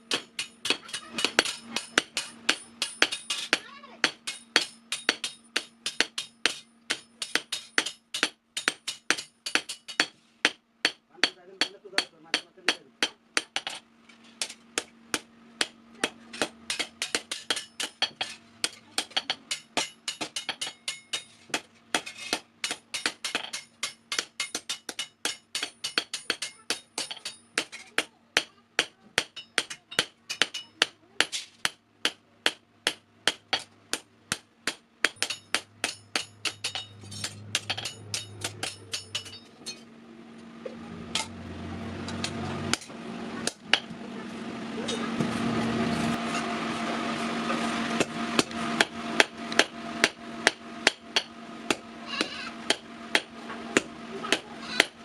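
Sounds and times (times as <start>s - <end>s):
hammer striking metal on anvil: 0.0s - 13.8s, 14.4s - 39.9s, 41.1s - 41.4s, 42.0s - 44.0s, 48.0s - 55.0s.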